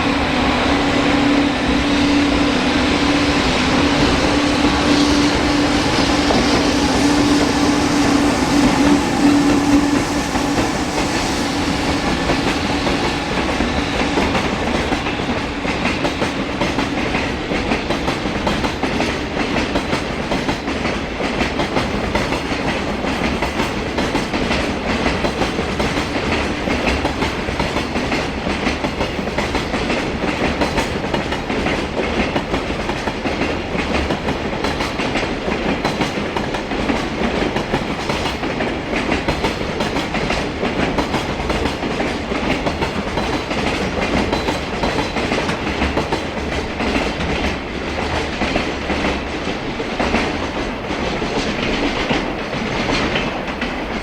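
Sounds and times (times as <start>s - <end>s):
train wheels clattering over rails: 0.0s - 54.0s.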